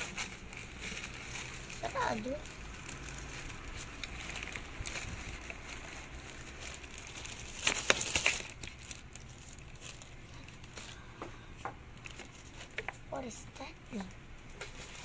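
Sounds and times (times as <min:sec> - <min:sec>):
plastic pouch crinkling: 0:00.0 - 0:11.2, 0:11.9 - 0:13.3.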